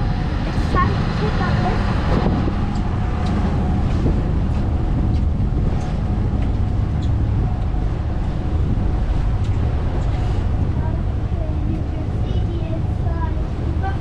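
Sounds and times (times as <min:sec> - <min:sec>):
boat engines rumbling: 0:00.0 - 0:14.0.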